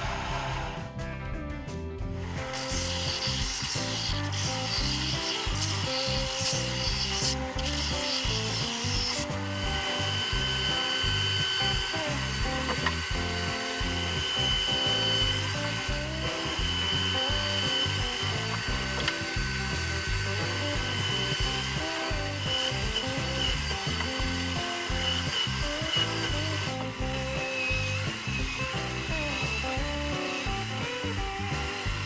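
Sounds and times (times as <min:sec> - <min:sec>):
drill press motor whine: 0:00.0 - 0:00.9, 0:02.2 - 0:32.0
background music: 0:00.0 - 0:32.0
drill bit boring into wood: 0:02.2 - 0:32.0.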